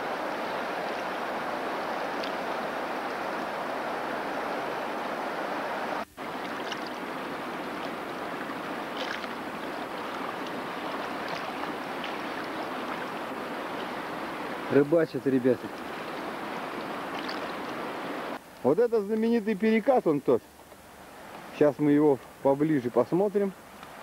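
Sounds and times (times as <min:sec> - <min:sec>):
river water rushing over stones: 0:00.0 - 0:18.4, 0:21.0 - 0:24.0.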